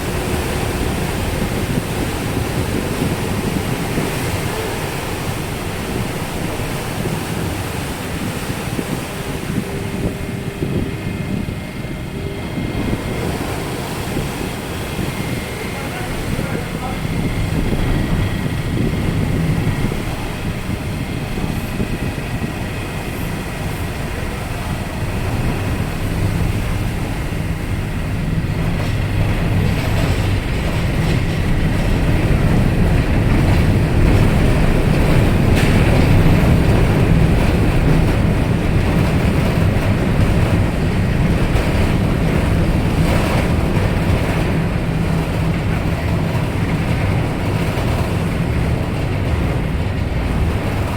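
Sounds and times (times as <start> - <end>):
ferry diesel engines droning: 0.0 - 50.9.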